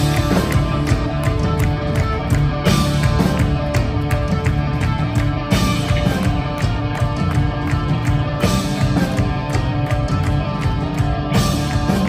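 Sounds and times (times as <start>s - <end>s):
bass guitar: 0.0s - 12.0s
distorted electric guitars: 0.0s - 12.0s
drums: 0.0s - 12.0s.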